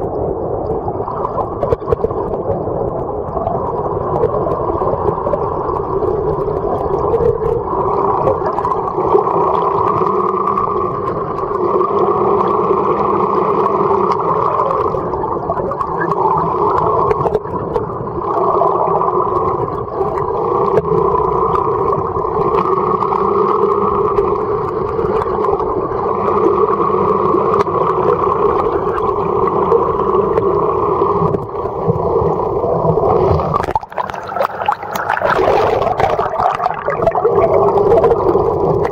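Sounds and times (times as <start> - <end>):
boat engine droning underwater: 0.0 - 38.9.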